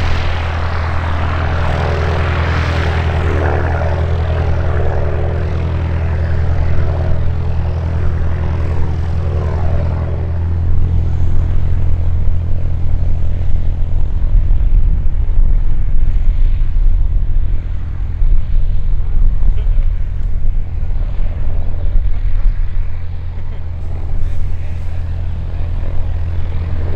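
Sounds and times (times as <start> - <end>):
distant propeller engine droning: 0.0 - 26.9
wind rumble on microphone: 0.0 - 26.9.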